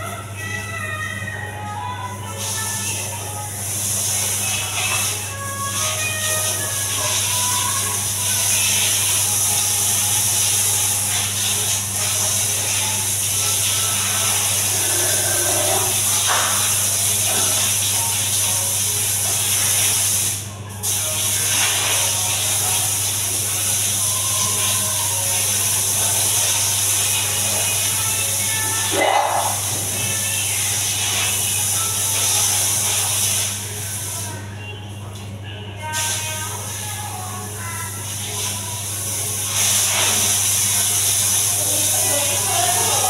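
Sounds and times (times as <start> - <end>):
water spraying on tile floor: 1.8 - 43.0.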